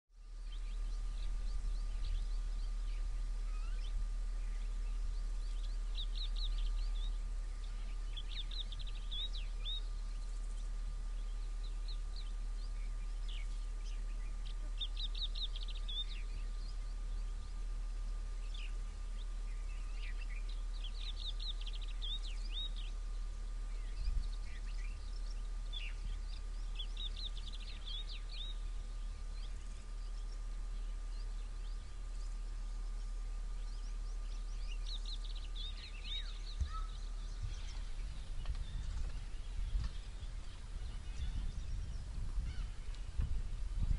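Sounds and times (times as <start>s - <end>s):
steady low rumble: 0.1s - 43.9s
bird chirping: 0.2s - 43.9s.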